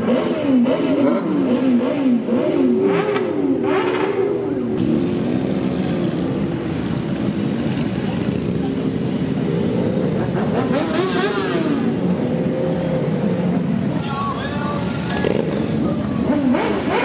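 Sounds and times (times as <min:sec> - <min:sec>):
motorcycle engines running: 0:00.0 - 0:17.0
motorcycles revving: 0:00.0 - 0:17.0.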